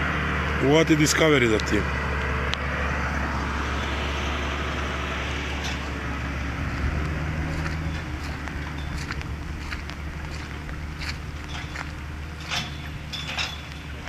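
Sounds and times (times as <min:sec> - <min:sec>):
diesel truck engine rumble: 0:00.0 - 0:14.0.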